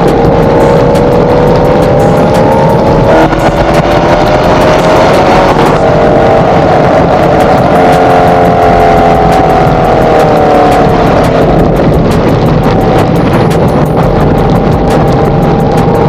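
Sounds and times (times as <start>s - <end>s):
road and wind rush: 0.0s - 16.0s.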